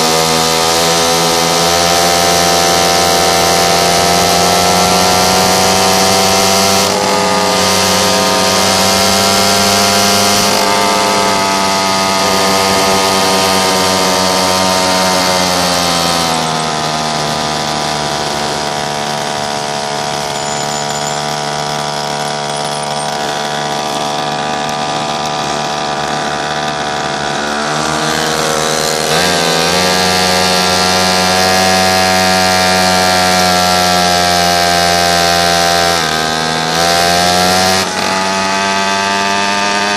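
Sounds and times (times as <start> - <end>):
small engine revving buzzily: 0.0 - 39.9.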